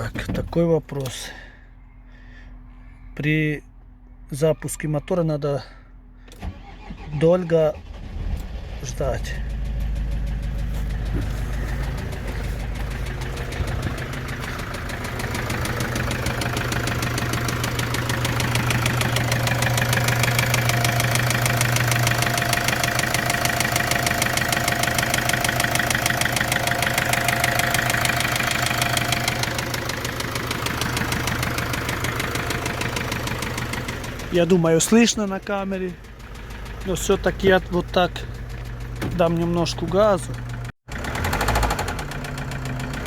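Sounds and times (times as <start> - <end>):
diesel engine idling with knock: 0.0 - 1.4, 9.2 - 43.0.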